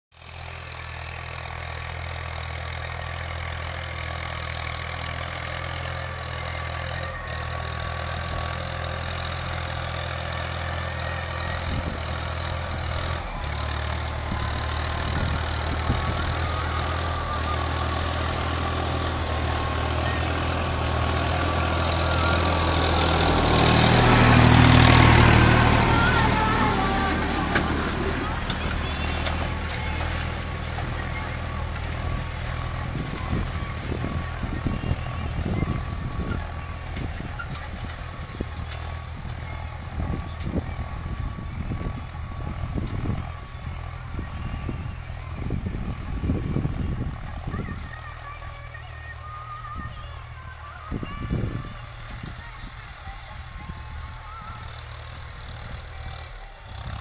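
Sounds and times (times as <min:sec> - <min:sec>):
tractor diesel engine droning: 0:00.1 - 0:57.0.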